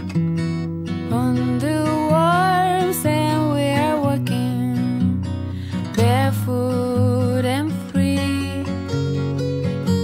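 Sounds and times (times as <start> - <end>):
song with strummed acoustic guitar: 0.0 - 10.0.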